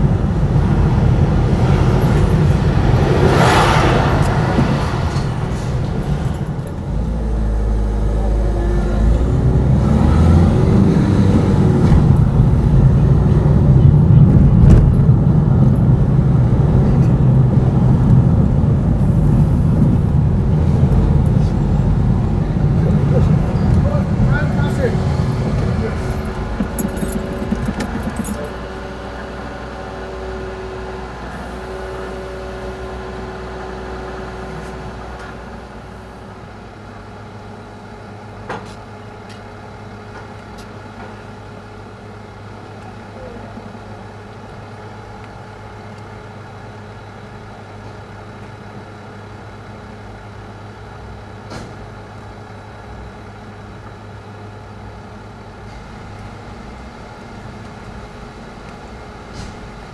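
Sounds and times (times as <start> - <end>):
traffic engines humming: 0.0 - 59.9.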